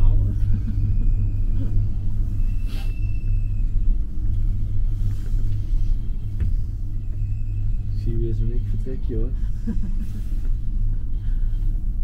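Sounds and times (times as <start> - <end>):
gondola cabin rumble: 0.0 - 12.0.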